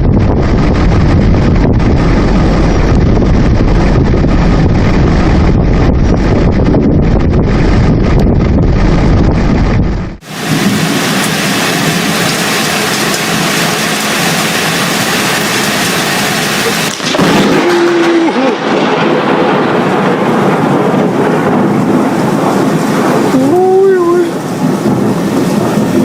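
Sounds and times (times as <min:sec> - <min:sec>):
heavy rain and wind: 0:00.0 - 0:26.0.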